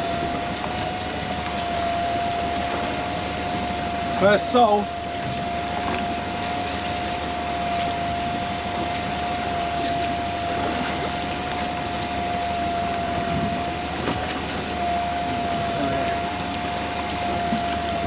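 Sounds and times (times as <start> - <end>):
boat machinery whine and rumble: 0.0 - 18.0.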